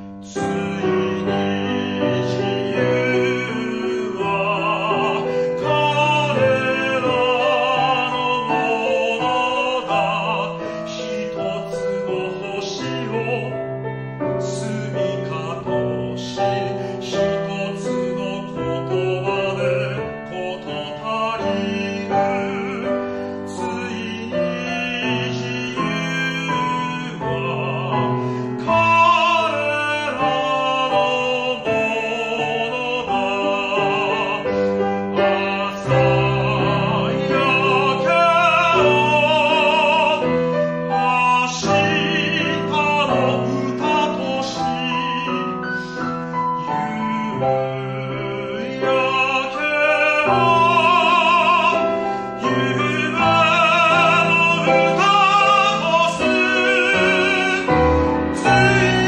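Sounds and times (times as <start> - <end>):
grand piano: 0.0 - 59.0
man singing operatically: 0.0 - 59.0.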